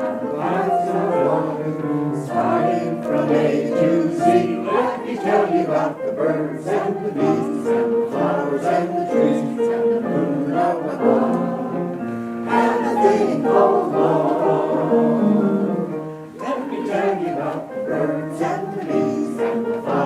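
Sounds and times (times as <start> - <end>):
mixed choir singing: 0.0 - 20.0.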